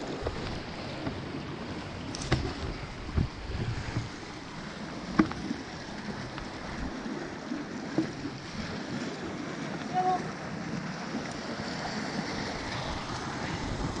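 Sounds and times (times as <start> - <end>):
sea washing against rocks: 0.0 - 14.0
wind on microphone: 2.1 - 7.3, 7.9 - 14.0.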